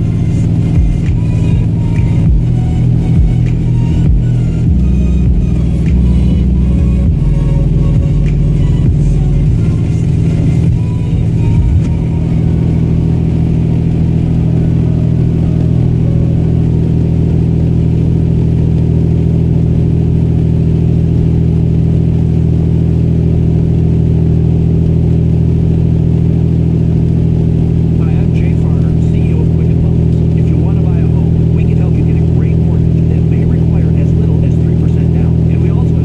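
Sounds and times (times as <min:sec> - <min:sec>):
car engine and road drone: 0:00.0 - 0:36.0.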